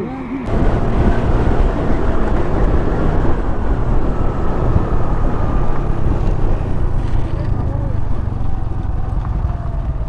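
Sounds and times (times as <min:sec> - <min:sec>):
wind rushing over microphone: 0:00.0 - 0:10.0
motorcycle engine at speed: 0:00.5 - 0:10.0.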